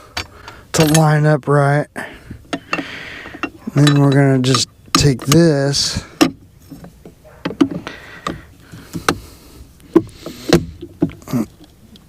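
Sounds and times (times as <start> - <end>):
parts clicking and knocking: 0.0 - 1.4, 2.3 - 12.0.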